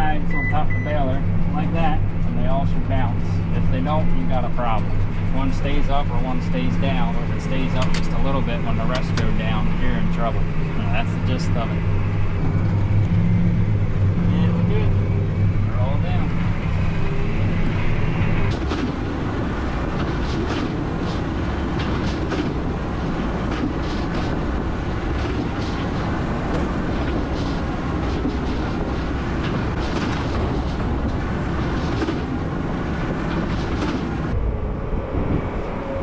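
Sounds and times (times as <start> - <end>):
tractor and baler running: 0.0 - 34.6.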